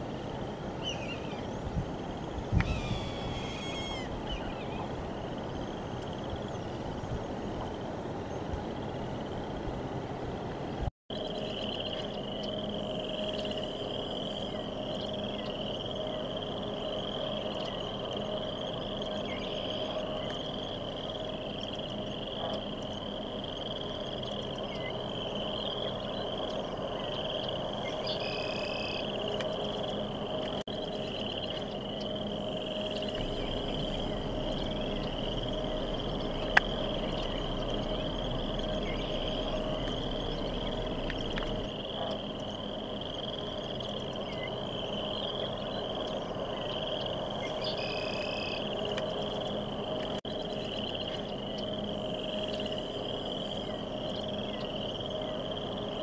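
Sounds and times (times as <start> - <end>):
frogs trilling: 0.0 - 9.6, 11.1 - 56.0
low steady hum: 0.0 - 56.0.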